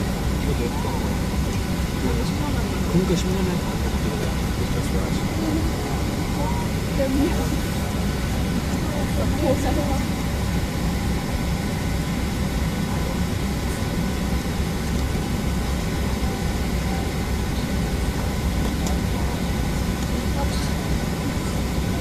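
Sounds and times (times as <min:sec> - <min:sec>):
airliner cabin hum: 0:00.0 - 0:22.0
faint steady whining tones: 0:00.0 - 0:22.0.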